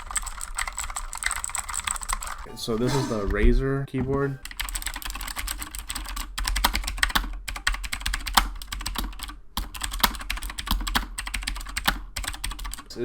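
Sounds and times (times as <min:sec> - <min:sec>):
fast typing on keyboard: 0:00.0 - 0:03.4, 0:04.4 - 0:12.8.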